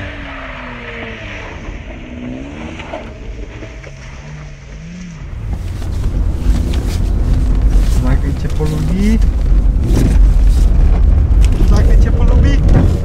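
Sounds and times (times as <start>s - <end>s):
car engine revving: 0.0s - 13.0s
loud low rumble: 0.0s - 13.0s.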